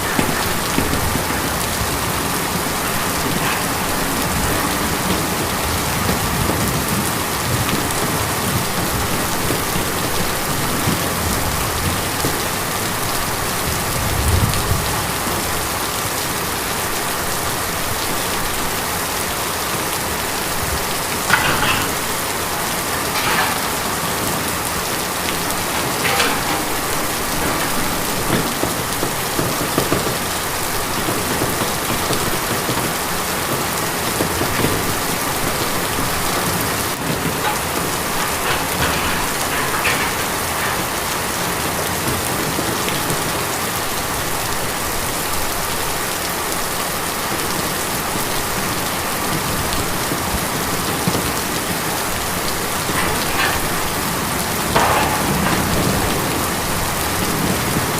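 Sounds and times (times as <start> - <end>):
rain on a tin roof: 0.0 - 57.9.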